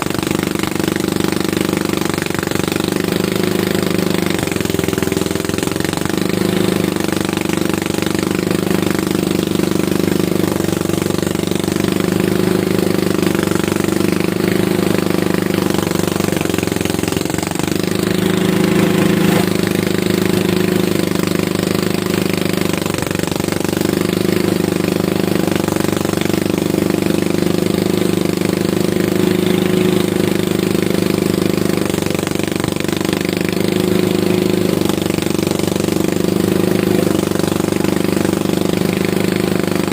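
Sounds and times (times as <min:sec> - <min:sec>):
harvester engine rattling: 0:00.0 - 0:39.9.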